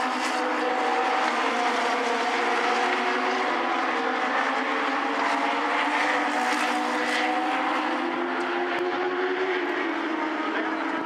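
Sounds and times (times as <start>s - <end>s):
race car engines running: 0.0s - 11.0s.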